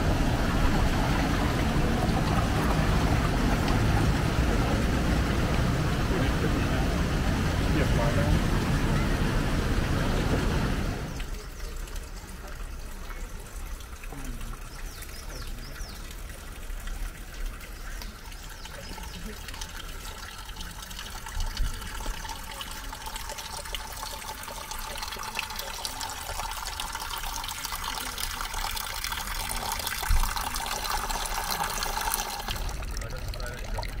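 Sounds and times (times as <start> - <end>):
water trickling into basin: 0.0 - 34.0.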